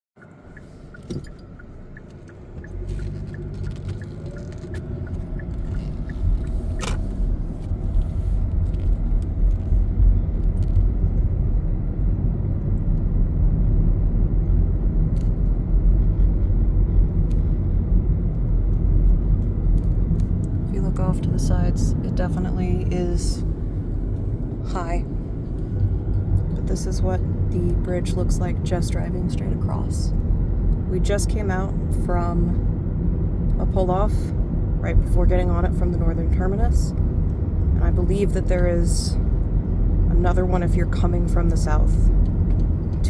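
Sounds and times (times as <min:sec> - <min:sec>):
car engine and tyre rumble: 0:00.2 - 0:43.0.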